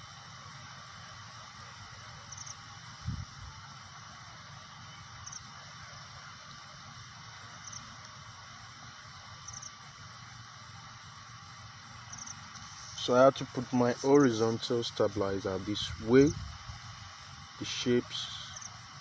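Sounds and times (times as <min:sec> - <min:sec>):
background hiss: 0:00.0 - 0:19.0
cricket chirping: 0:00.0 - 0:19.0.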